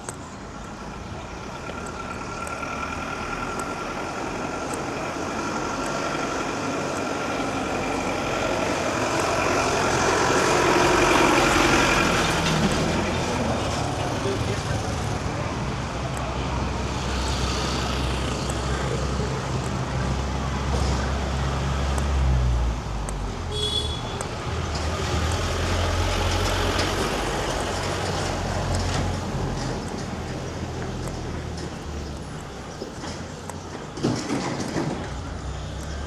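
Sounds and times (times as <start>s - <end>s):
roadway hum: 0.0s - 36.0s
vehicle engines running: 0.0s - 36.0s
heavy engine low rumble: 0.2s - 36.0s.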